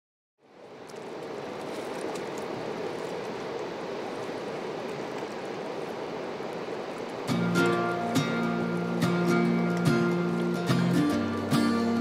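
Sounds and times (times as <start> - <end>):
river water rushing: 0.4 - 12.0.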